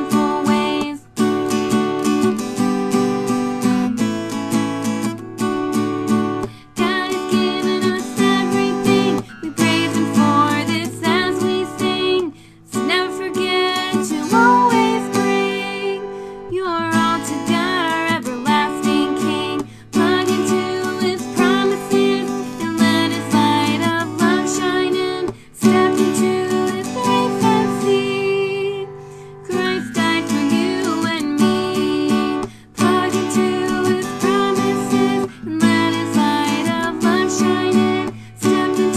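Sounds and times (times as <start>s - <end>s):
woman singing: 0.0s - 2.2s, 6.2s - 38.9s
strummed acoustic guitar: 0.0s - 38.9s.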